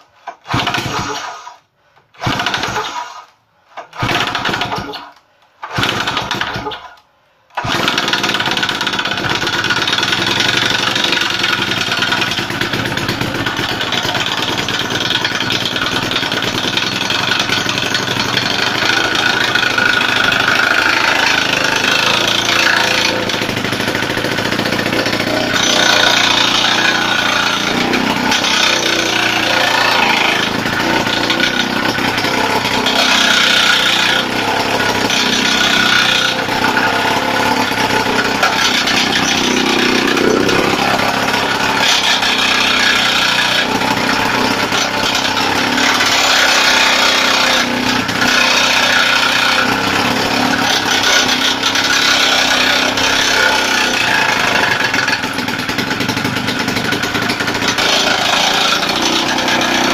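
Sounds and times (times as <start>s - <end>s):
rock drill hammering concrete: 0.3s - 1.6s, 2.2s - 5.1s, 5.7s - 6.9s, 7.6s - 59.9s.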